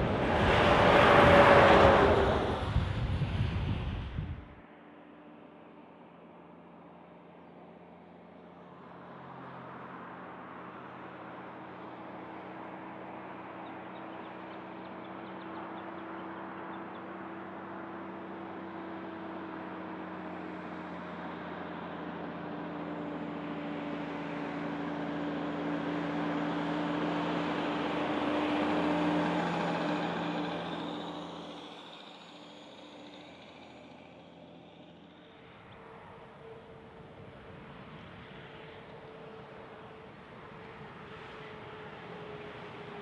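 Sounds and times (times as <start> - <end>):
truck passing by: 0.0 - 43.0.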